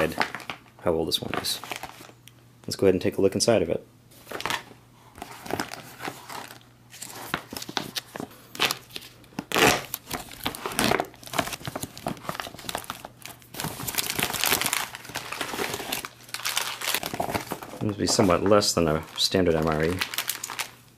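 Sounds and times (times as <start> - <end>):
plastic bag crinkling and tearing: 0.0 - 2.2, 4.3 - 20.9.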